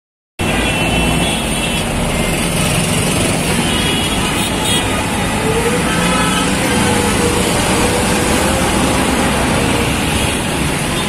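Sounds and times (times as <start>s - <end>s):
heavy road traffic rumble: 0.4s - 11.0s.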